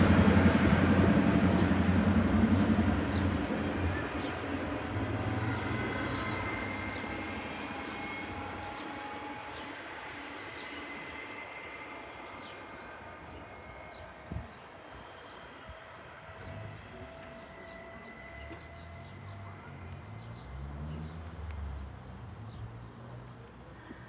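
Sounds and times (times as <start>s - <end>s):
train wheel noise: 0.0s - 21.0s
diesel train rumble: 0.0s - 24.0s.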